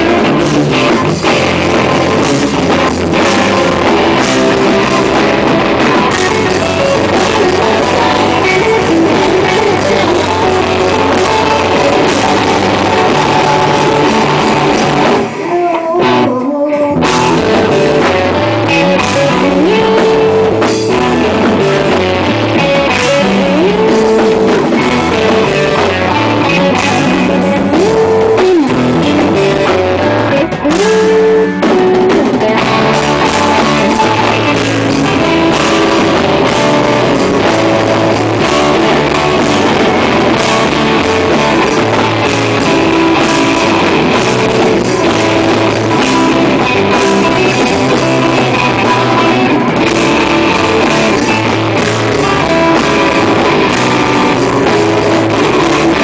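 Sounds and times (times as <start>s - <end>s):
live rock band: 0.0s - 56.0s
sliding guitar notes: 0.0s - 56.0s.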